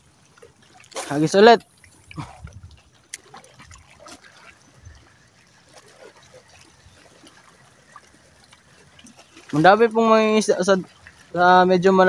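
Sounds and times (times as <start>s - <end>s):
shallow seawater trickling and lapping: 0.0s - 12.0s.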